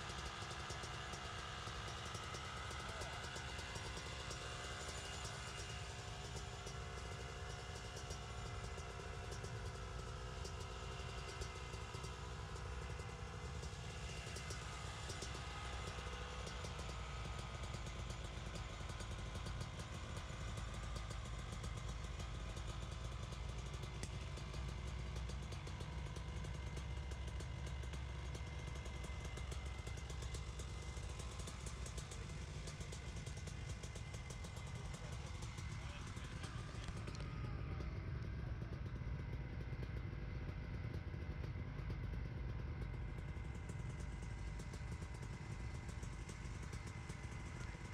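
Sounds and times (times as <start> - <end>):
dirt bike engine idling: 0.0 - 47.9.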